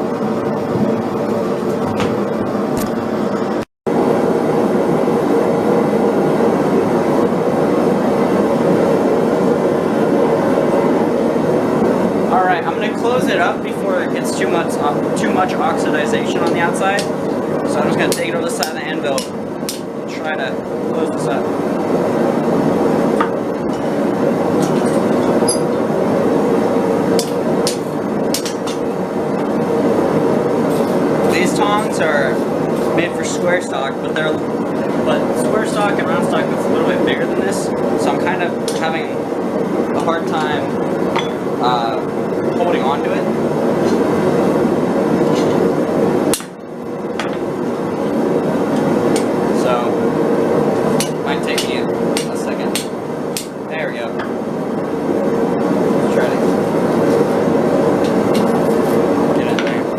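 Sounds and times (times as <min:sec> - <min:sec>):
forge burner roaring: 0:00.0 - 0:59.9.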